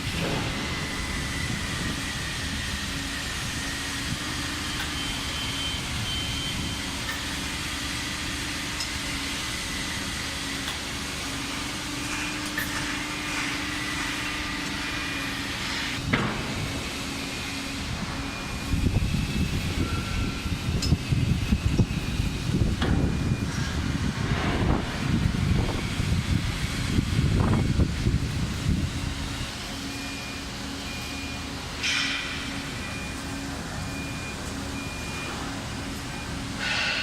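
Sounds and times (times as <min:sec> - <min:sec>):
electric hoist humming: 0:00.0 - 0:37.0
workshop machinery noise: 0:00.0 - 0:37.0.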